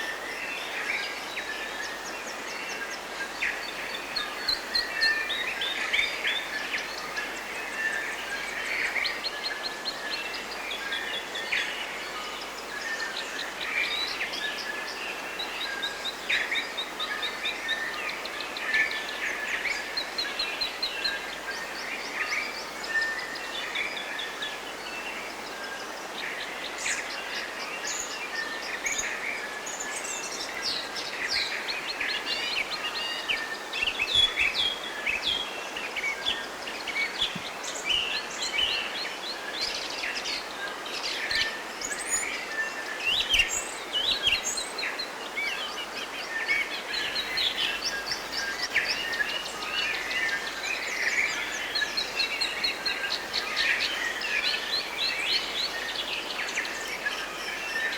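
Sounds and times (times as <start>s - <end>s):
small songbirds chirping and singing: 0.0s - 57.9s
steady background hiss: 0.0s - 57.9s.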